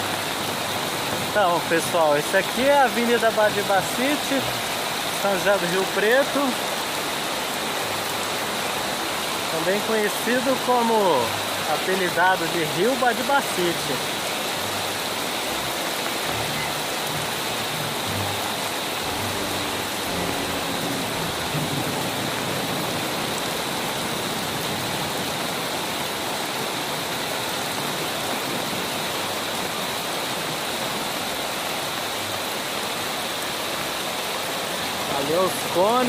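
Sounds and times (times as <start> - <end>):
heavy rain on a flooded street: 0.0 - 36.0.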